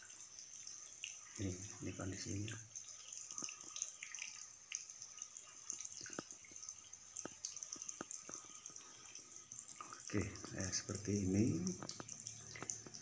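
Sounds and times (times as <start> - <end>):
faint steady high hiss: 0.0 - 13.0
water dripping into water: 0.0 - 13.0.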